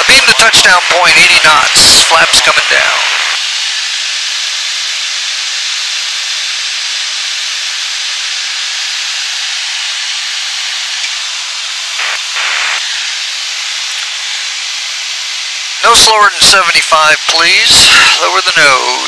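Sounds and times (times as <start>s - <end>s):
aircraft cockpit hiss: 0.0s - 19.0s.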